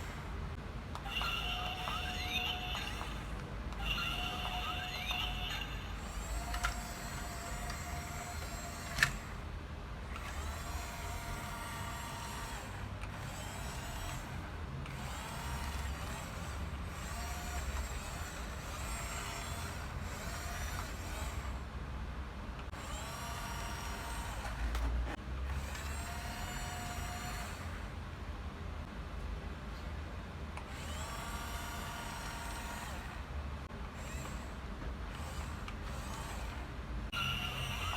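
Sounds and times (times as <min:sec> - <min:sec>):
toy electric motors whining: 0:00.0 - 0:09.4, 0:10.0 - 0:21.7, 0:22.7 - 0:27.8, 0:30.7 - 0:33.3, 0:33.9 - 0:37.9.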